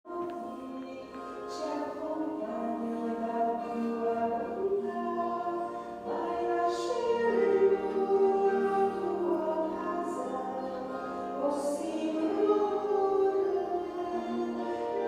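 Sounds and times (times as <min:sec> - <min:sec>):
choir singing slow held notes: 0:00.1 - 0:15.0.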